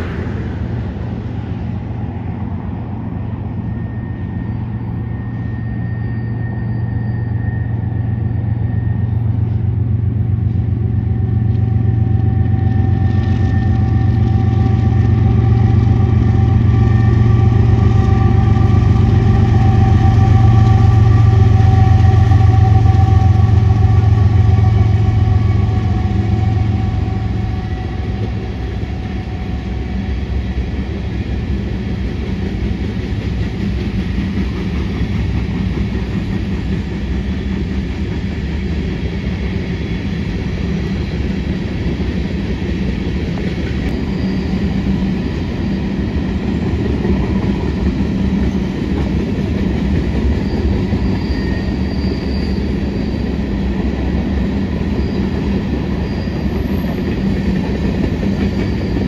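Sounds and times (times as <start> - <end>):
diesel locomotive engine drone: 0.0 - 59.0
train cars rumbling past: 0.0 - 59.0.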